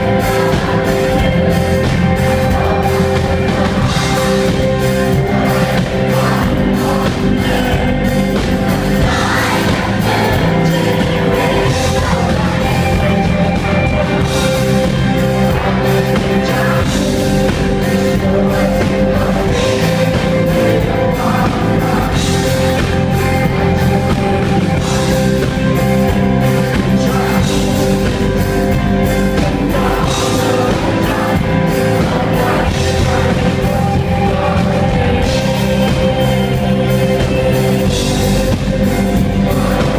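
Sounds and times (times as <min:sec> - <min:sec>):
drum kit steady beat: 0:00.0 - 0:39.9
person singing: 0:00.0 - 0:39.9
sustained guitar chords: 0:00.0 - 0:39.9.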